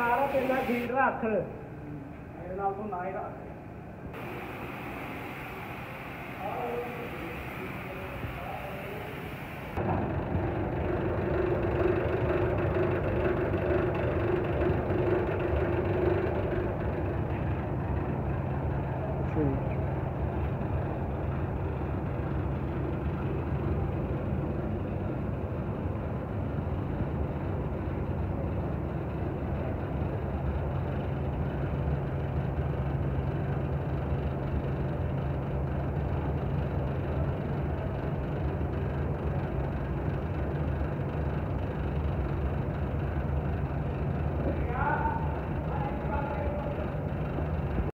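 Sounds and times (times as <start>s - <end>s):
machine motor droning: 0.0s - 1.0s, 4.2s - 47.9s.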